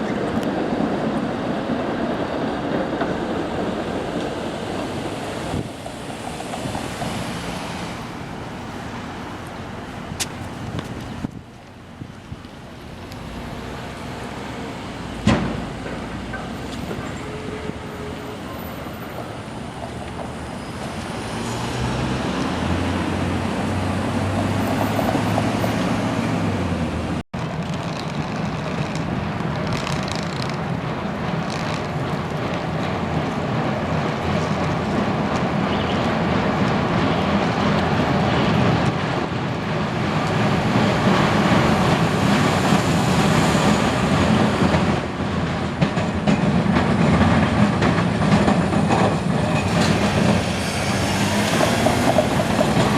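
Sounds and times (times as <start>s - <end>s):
vehicles passing: 0.0s - 52.9s.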